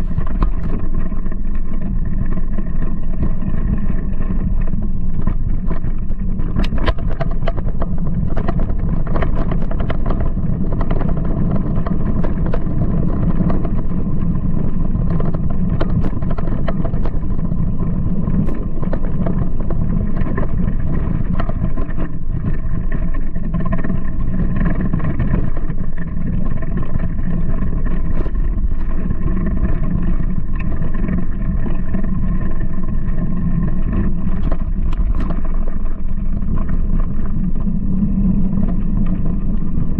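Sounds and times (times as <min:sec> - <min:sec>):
bike clicks and rattles: 0:00.0 - 0:39.9
bike tyres rumbling on dirt: 0:00.0 - 0:39.9
wind buffeting microphone: 0:00.0 - 0:39.9.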